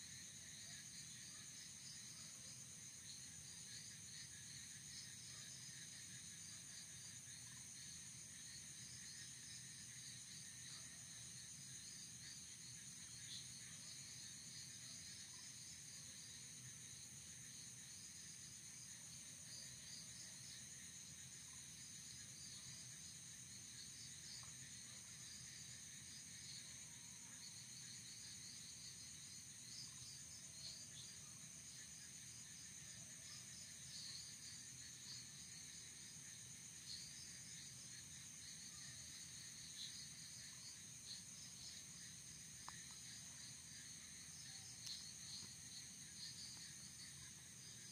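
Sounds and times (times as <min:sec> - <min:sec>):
insect chirps: 0:00.0 - 0:47.9
insect trill: 0:00.0 - 0:47.9.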